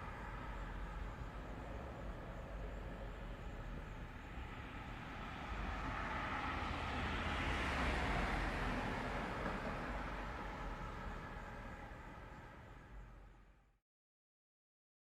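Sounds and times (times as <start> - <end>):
car passing by: 0.0 - 13.2
low traffic rumble: 0.0 - 13.4.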